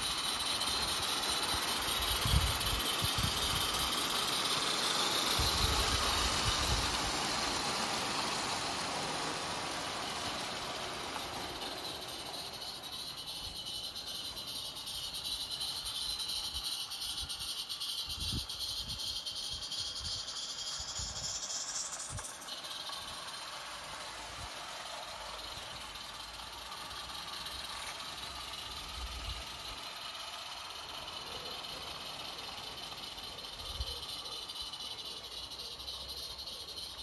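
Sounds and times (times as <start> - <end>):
steam hissing: 0.0 - 37.0
wheels rattling on track: 0.0 - 37.0.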